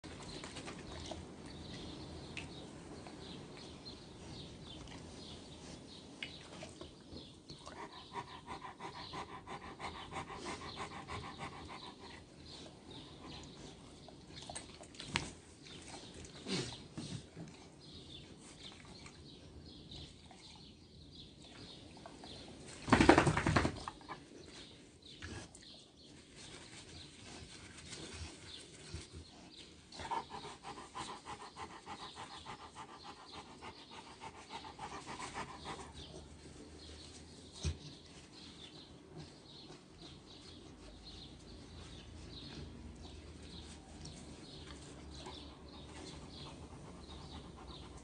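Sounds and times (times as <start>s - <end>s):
dog panting: 3.2s - 21.3s, 23.0s - 48.0s.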